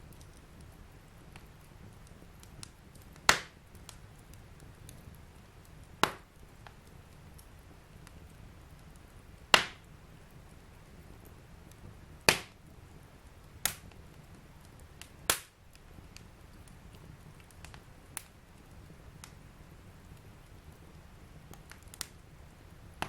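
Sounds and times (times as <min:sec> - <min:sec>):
fire crackling and popping: 0:00.0 - 0:23.0
low fire hiss: 0:00.0 - 0:23.0.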